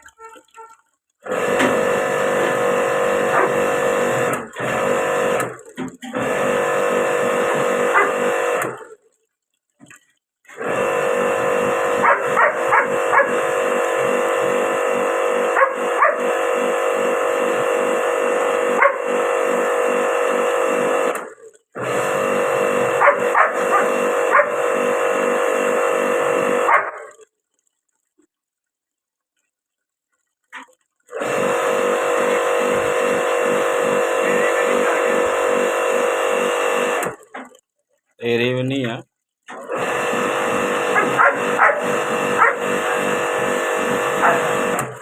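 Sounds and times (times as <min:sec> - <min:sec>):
pressure washer pump whining: 0:00.0 - 0:45.0.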